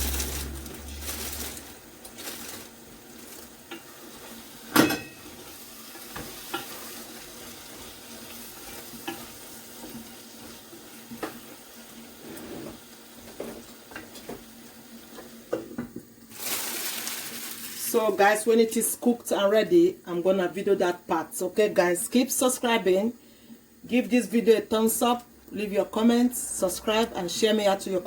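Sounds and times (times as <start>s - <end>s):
stew sizzling in a pot: 0.0s - 23.0s.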